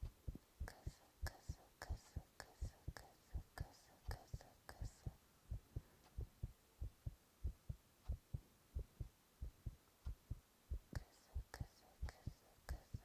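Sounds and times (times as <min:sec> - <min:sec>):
heartbeat thumps: 0:00.0 - 0:03.6, 0:04.2 - 0:13.0.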